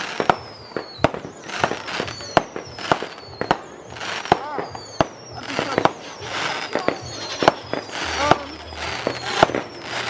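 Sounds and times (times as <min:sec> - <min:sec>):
fireworks banging: 0:00.0 - 0:10.0
fireworks crackling: 0:00.0 - 0:10.0
high whistle falling in pitch: 0:00.0 - 0:10.0.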